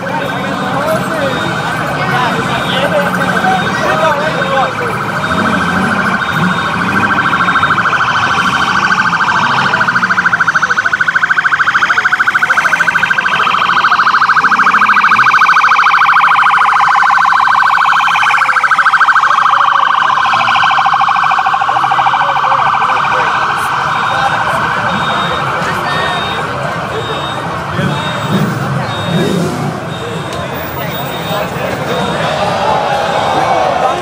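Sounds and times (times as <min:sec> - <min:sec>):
police siren warbling: 0:00.0 - 0:34.0.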